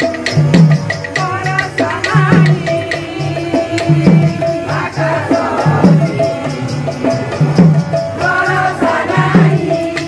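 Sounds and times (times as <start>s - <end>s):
hand drum beating: 0.0s - 10.0s
voices singing a chant: 1.2s - 10.0s.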